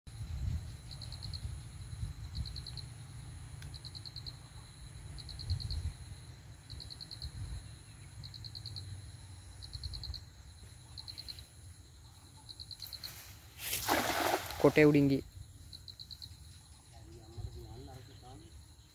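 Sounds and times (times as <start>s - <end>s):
insects chirping in pulses: 0.1s - 18.9s.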